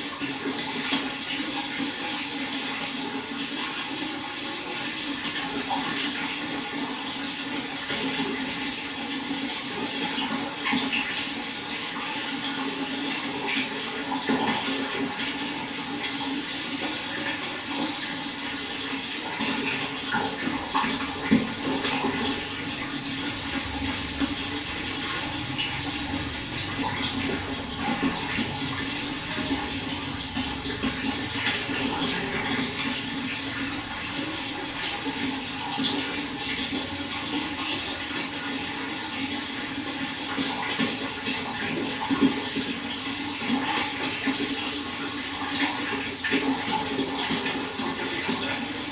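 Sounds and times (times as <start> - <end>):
running water splashing: 0.0 - 48.9.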